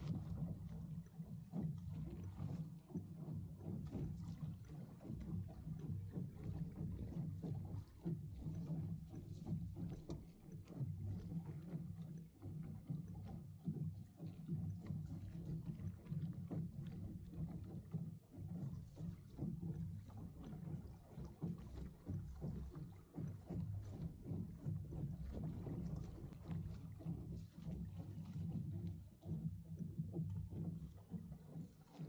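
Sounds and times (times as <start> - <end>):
water lapping against boat hull: 0.0 - 32.0.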